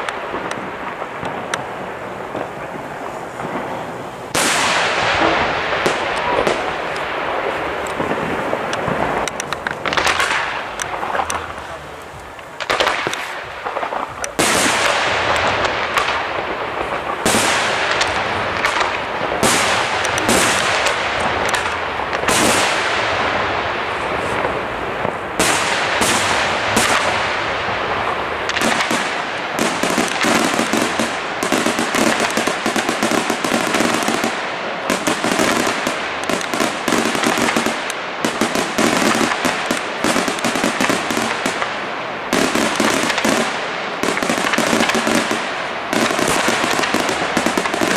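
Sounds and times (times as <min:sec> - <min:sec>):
firework crackling: 0:00.0 - 0:47.9
firework shells bursting: 0:00.0 - 0:47.9.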